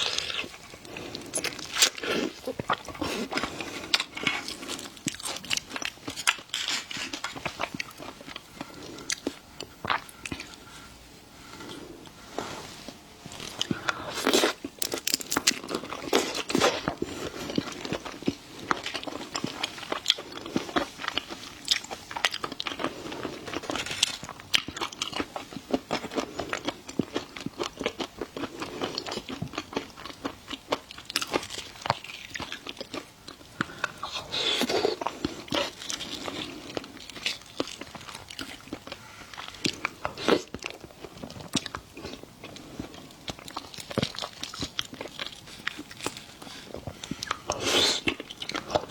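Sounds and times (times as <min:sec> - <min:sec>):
chewing and crunching: 0:00.0 - 0:10.9, 0:13.2 - 0:48.9.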